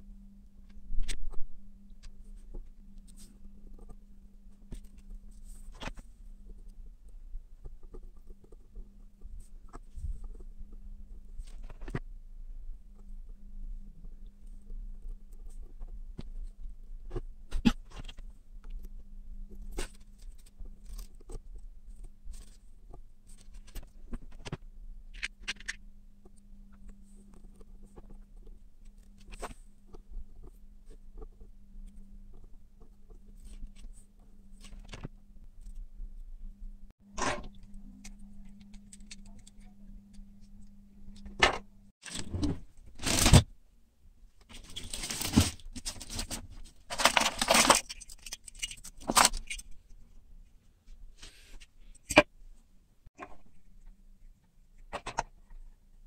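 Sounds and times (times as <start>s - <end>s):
rummaging through wires and parts: 0.0s - 12.1s, 12.8s - 36.2s, 37.0s - 43.6s, 44.3s - 54.0s
steady low hum: 0.0s - 47.8s.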